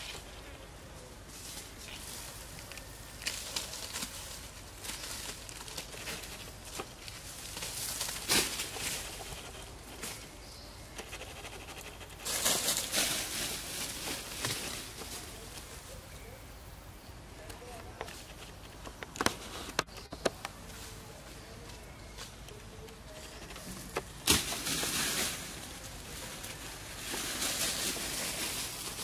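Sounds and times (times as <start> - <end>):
dry leaves rustling and crunching: 0.0 - 10.4, 11.4 - 16.2, 17.8 - 29.0.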